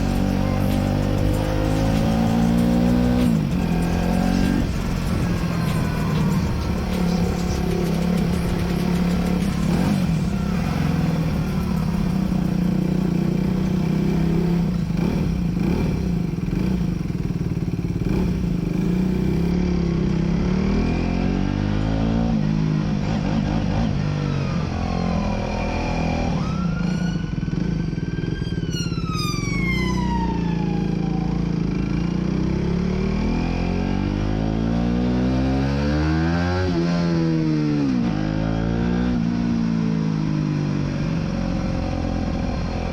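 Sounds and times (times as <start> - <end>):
motorcycle engine revving: 0.0 - 28.8, 29.8 - 42.9.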